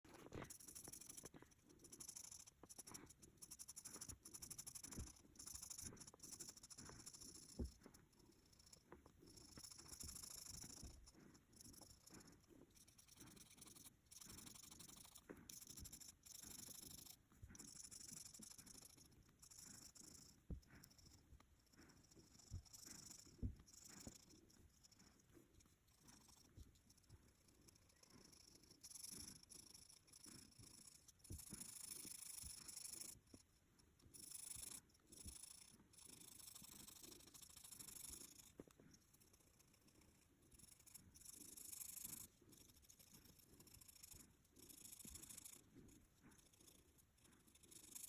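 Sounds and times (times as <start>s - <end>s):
coloring tool scratching paper: 0.0s - 48.0s.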